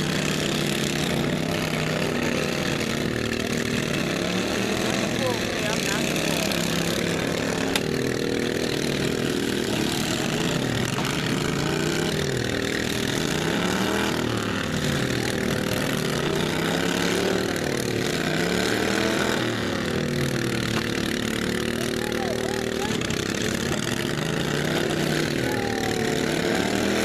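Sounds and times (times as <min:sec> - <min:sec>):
lawn mower engines revving: 0:00.0 - 0:27.0.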